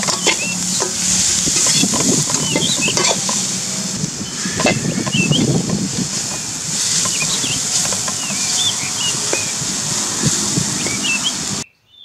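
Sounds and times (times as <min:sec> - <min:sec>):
food frying hiss: 0:00.0 - 0:11.6
metal spatula scraping pan: 0:00.0 - 0:11.6
small birds chirping: 0:00.0 - 0:12.0.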